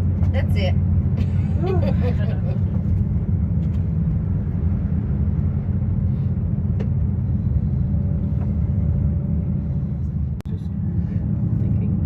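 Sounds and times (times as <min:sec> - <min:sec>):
cable car cabin rumble: 0:00.0 - 0:12.0.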